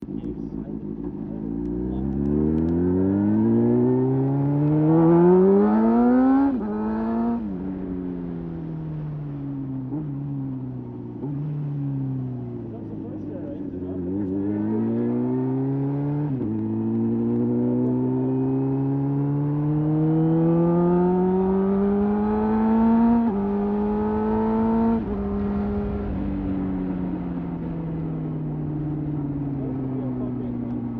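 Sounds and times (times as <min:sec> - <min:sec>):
low wind rumble: 0:00.0 - 0:19.2, 0:20.2 - 0:30.9
motorcycle engine accelerating: 0:00.0 - 0:30.9.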